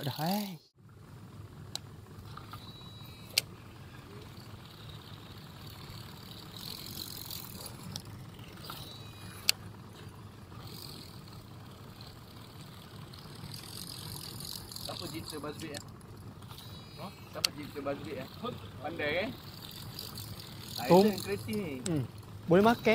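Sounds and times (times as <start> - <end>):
fishing reel whirring: 0.0 - 22.9
sharp reel clicks: 1.6 - 22.9.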